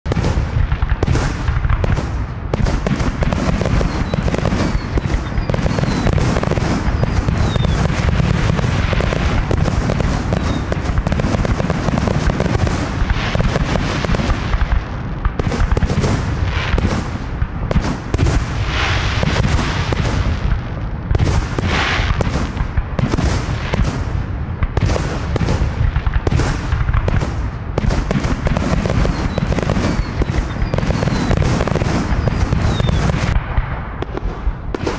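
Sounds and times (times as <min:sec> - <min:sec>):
firework shells launching and bursting: 0:00.1 - 0:34.9
fireworks crackling hiss: 0:00.3 - 0:17.4, 0:18.0 - 0:24.2, 0:28.0 - 0:34.9.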